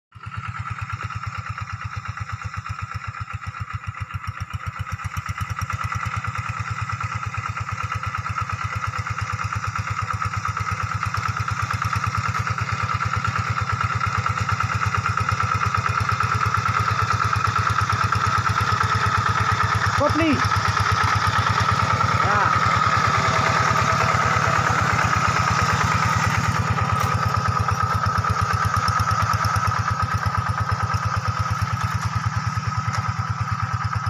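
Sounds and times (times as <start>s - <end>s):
diesel engine chugging: 0.2s - 34.0s.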